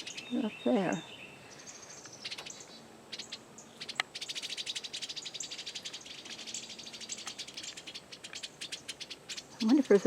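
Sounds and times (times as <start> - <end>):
birds chipping and chattering: 0.0 - 10.0.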